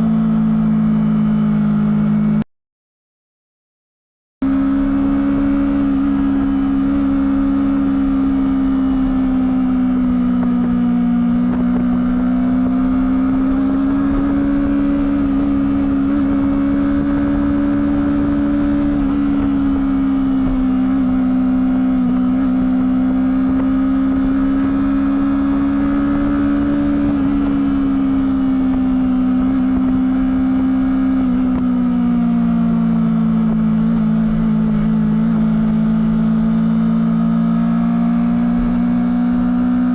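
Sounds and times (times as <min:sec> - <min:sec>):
motorcycle engine at high revs: 0:00.0 - 0:02.4, 0:04.4 - 0:39.9.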